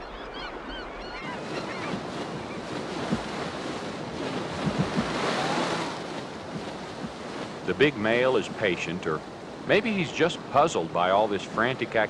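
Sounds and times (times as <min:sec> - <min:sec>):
river rapids roaring: 0:01.4 - 0:11.6.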